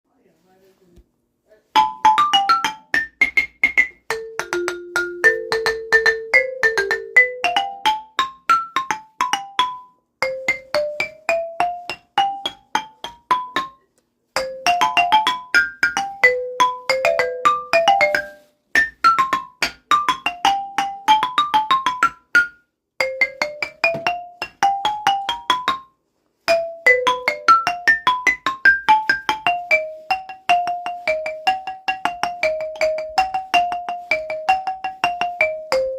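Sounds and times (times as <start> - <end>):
marimba playing fast runs: 1.7 - 13.8, 14.4 - 25.8, 26.5 - 35.9.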